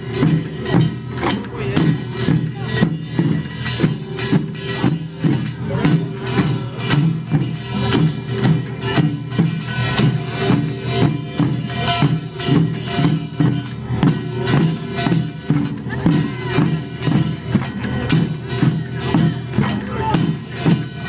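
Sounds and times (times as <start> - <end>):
folk drums and percussion: 0.0 - 21.0.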